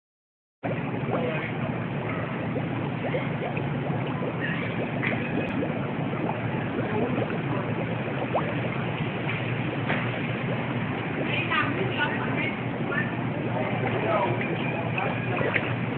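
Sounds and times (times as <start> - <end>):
floodwater rushing: 0.7 - 15.9.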